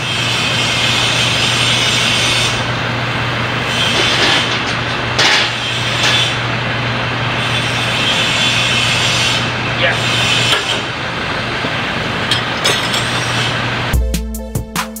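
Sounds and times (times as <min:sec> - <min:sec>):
loud mechanical noise: 0:00.0 - 0:14.0.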